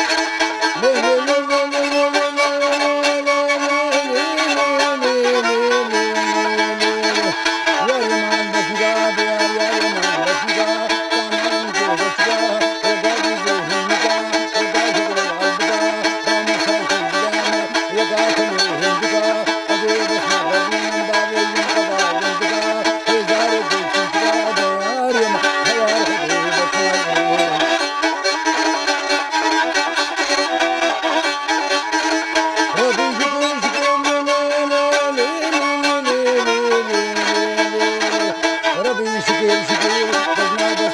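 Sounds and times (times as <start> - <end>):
bowed fiddle slow melody: 0.0 - 40.9.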